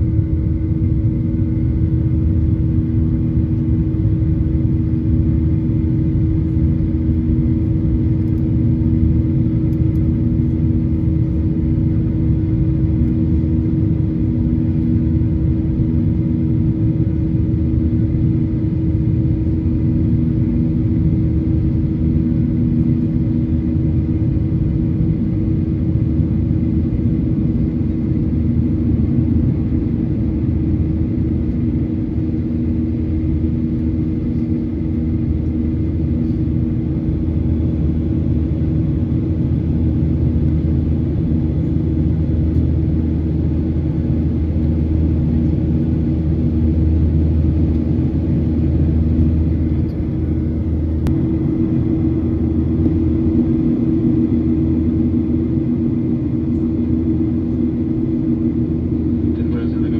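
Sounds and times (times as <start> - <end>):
aircraft engines rumbling: 0.0 - 59.9
low steady hum: 0.0 - 59.9.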